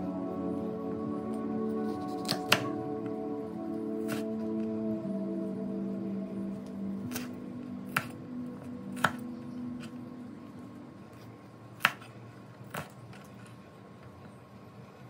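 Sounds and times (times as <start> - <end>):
soft ambient music: 0.0 - 15.0.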